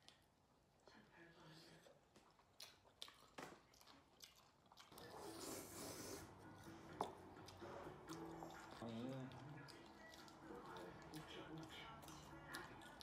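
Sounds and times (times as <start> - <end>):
person chewing and biting: 2.2 - 13.0.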